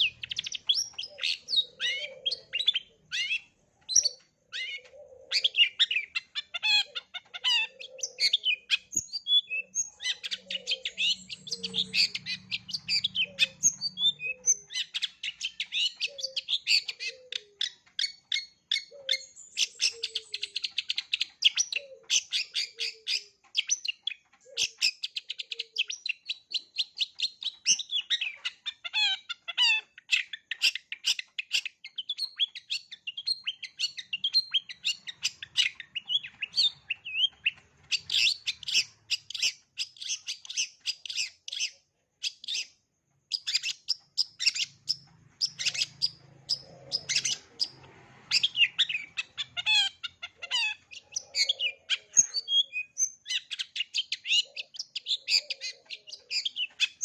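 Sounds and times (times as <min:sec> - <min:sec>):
shrike singing high chirps and trills: 0:00.0 - 0:57.0.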